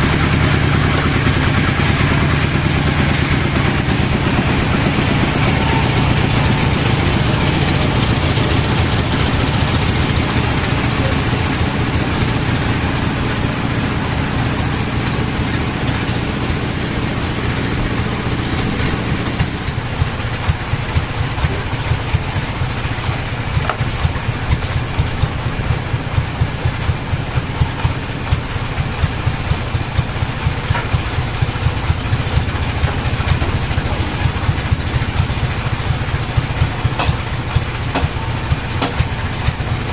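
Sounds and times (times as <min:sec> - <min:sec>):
engine running and idling: 0:00.0 - 0:39.9.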